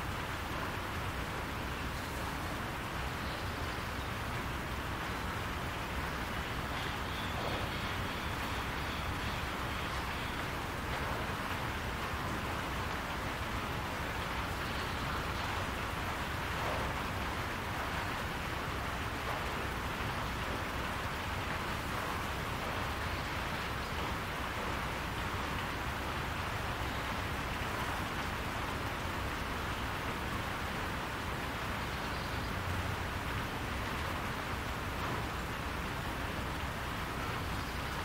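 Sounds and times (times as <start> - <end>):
rain on a roof: 0.0 - 38.0.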